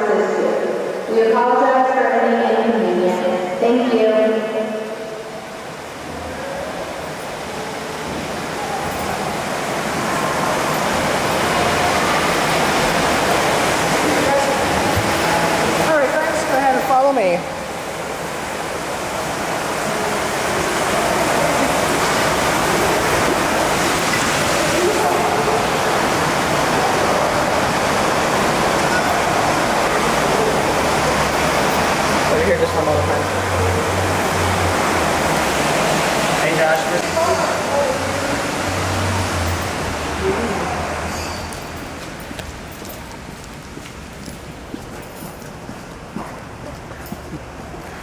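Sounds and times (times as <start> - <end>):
water rushing and churning: 0.0 - 48.0.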